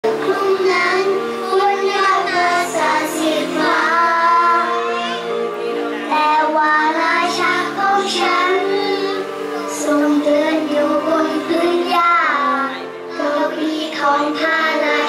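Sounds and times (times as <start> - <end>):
children singing into microphones: 0.0 - 15.0.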